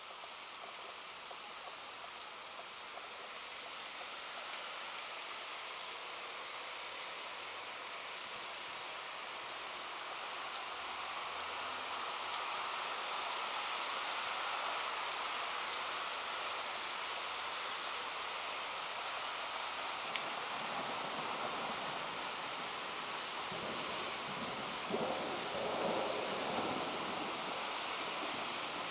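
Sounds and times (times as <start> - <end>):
steady rain hiss: 0.0 - 28.9.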